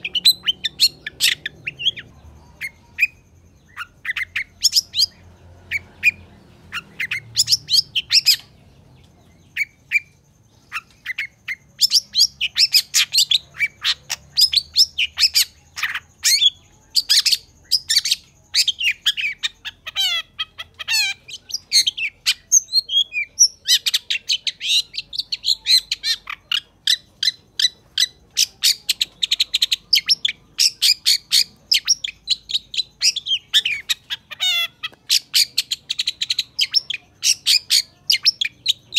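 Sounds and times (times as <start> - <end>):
shrike chattering song: 0.0 - 38.9.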